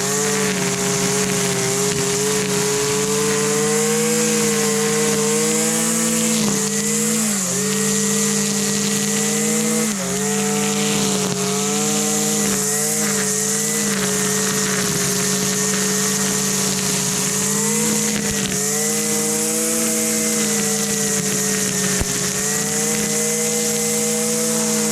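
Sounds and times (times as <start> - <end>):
string trimmer engine running: 0.0 - 24.9.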